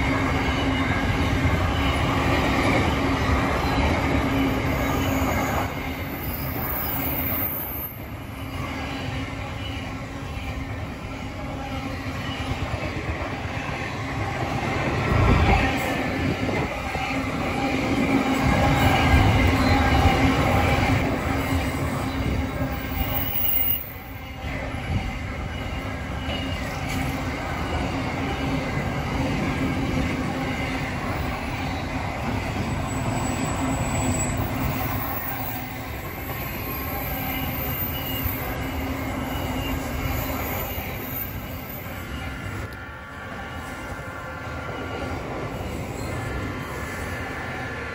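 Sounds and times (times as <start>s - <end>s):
train wheels rumbling: 0.0s - 47.9s
metallic wheel squeal: 0.2s - 10.8s, 15.1s - 42.7s, 44.7s - 46.5s.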